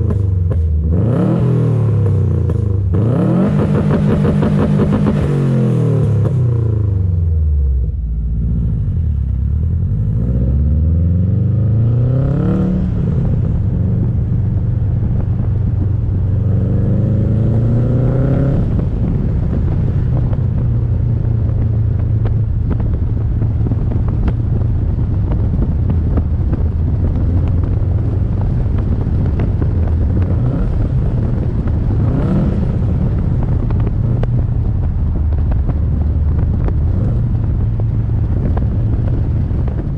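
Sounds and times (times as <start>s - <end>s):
car exhaust and engine accelerating: 0.0s - 39.9s.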